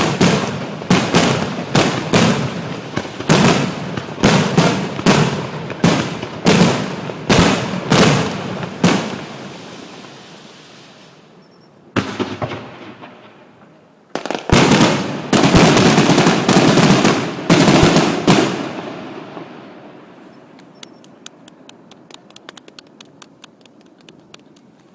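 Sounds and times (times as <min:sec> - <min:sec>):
fireworks bursting with echo: 0:00.0 - 0:24.9.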